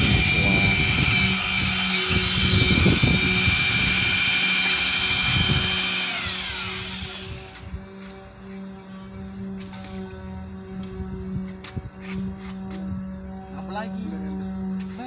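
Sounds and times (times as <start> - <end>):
electric drill mixer whine: 0.0 - 15.0.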